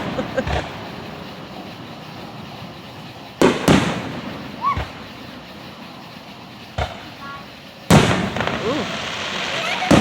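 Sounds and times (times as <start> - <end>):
distant fireworks bangs: 0.0 - 10.0
rumble of firework shells: 0.0 - 10.0.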